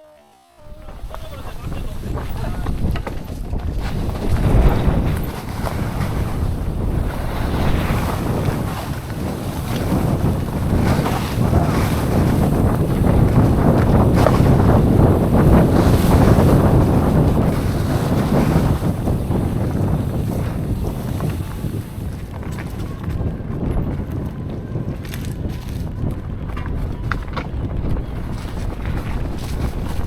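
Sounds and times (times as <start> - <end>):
bike tyres rolling: 0.0 - 30.0
bike rattling: 0.6 - 30.0
wind on microphone: 0.6 - 30.0.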